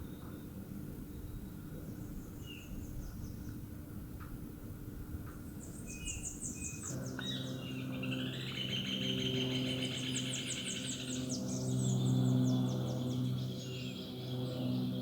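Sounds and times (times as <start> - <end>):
low multi-tone hum: 0.0 - 15.0.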